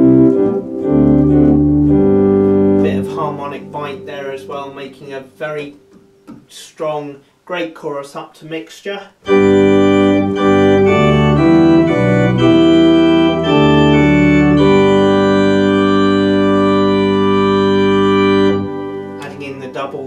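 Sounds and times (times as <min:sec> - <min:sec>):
pipe organ playing chords: 0:00.0 - 0:06.0, 0:09.2 - 0:20.0.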